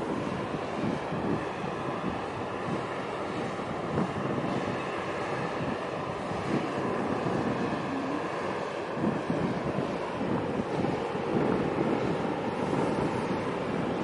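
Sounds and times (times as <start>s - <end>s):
ship machinery rumble: 0.0s - 14.0s
wind buffeting microphone: 0.0s - 14.0s.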